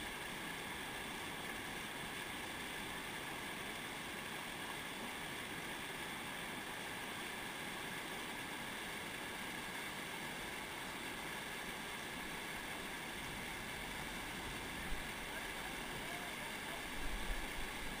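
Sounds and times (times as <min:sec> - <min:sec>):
river water pouring over weir: 0:00.0 - 0:18.0.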